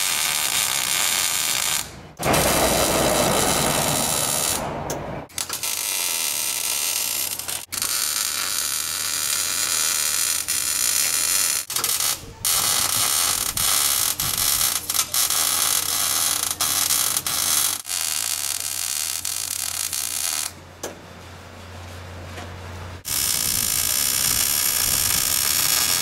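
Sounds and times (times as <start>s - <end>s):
welding arc sizzling: 0.0s - 4.7s, 5.3s - 20.6s, 23.0s - 26.0s.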